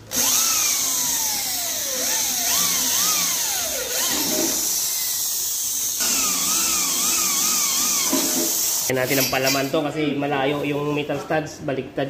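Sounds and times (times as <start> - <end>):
electric drill boring metal: 0.0 - 9.7.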